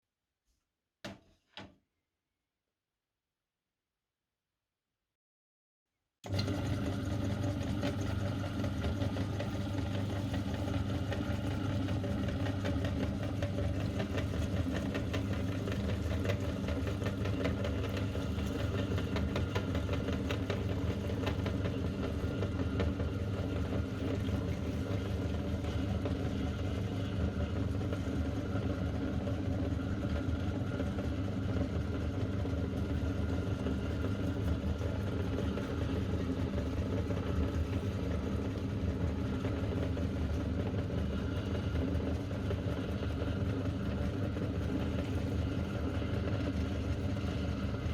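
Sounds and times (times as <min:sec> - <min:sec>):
electric meat grinder running: 0:06.3 - 0:47.9.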